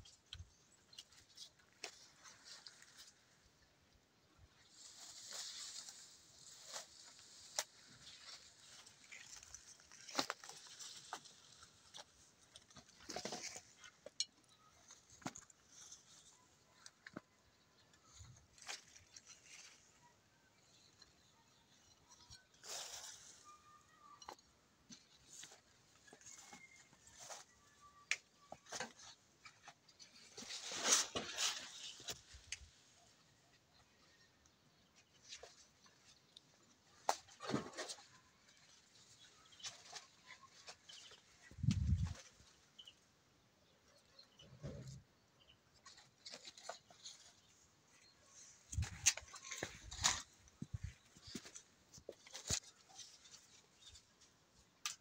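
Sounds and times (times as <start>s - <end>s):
leaves and branches rustling: 0.1s - 43.1s, 45.7s - 55.0s.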